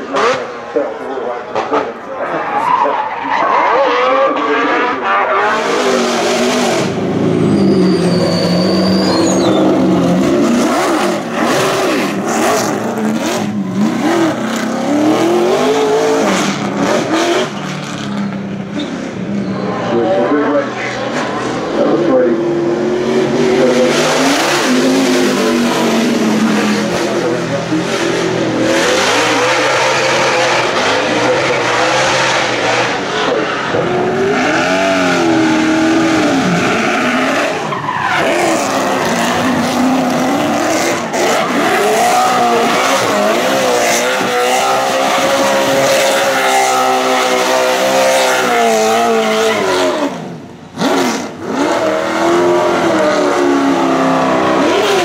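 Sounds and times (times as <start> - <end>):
racing car engines revving: 0.0 - 55.0
tyres squealing and skidding: 1.4 - 22.3, 23.0 - 55.0.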